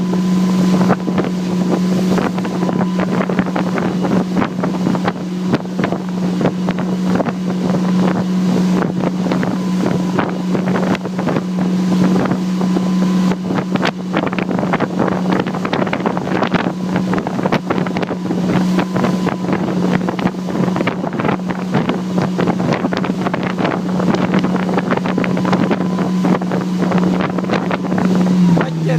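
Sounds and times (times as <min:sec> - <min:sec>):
motorboat engine running: 0:00.0 - 0:28.9
wind buffeting microphone: 0:00.0 - 0:28.9.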